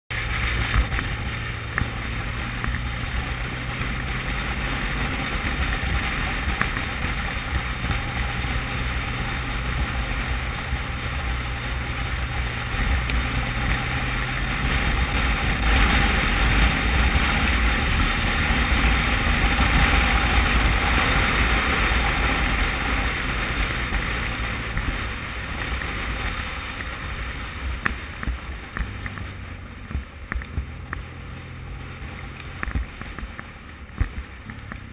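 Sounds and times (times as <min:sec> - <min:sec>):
motorcycle engine and tyres hum: 0:00.1 - 0:34.9
wind rushing over microphone: 0:00.1 - 0:34.9.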